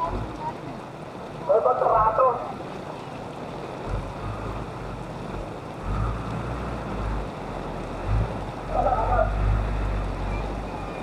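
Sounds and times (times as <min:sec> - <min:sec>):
wind and water wash: 0:00.0 - 0:11.0.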